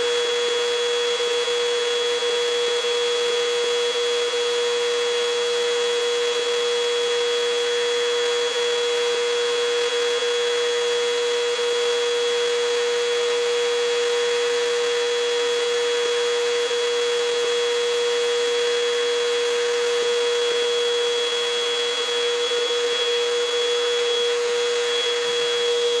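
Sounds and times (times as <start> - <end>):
vacuum cleaner whining: 0.0 - 26.0.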